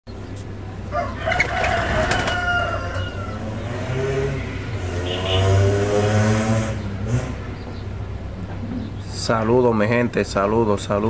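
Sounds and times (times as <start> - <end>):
birds calling: 0.1 - 11.0.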